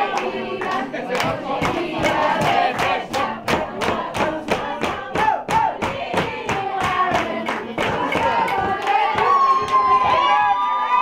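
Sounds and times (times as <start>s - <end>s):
group of people singing: 0.0s - 10.2s
hands clapping in a beat: 0.0s - 10.6s.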